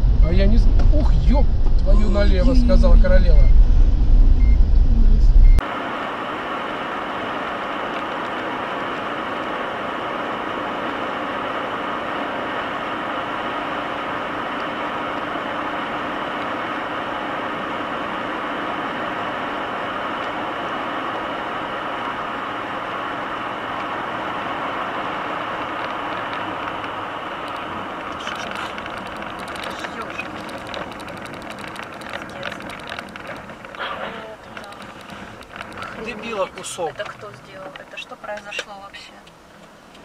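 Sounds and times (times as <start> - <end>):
car engine hum: 0.0 - 40.0
tyres and wind rushing: 0.0 - 40.0.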